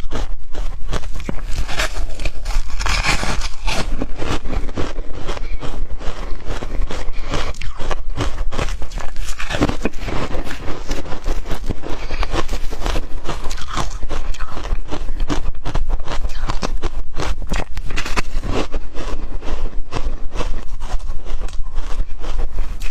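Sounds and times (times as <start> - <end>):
ice crunching being chewed: 0.0 - 22.9.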